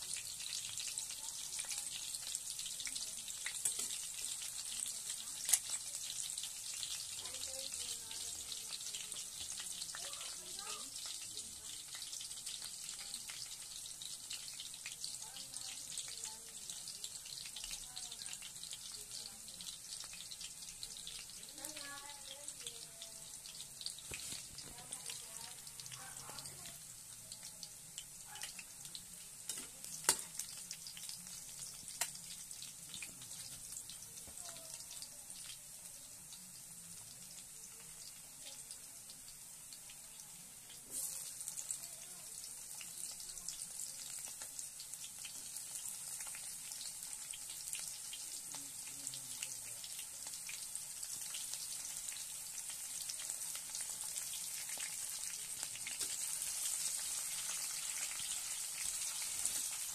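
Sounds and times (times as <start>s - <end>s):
garlic sizzling in oil: 0.0s - 59.9s.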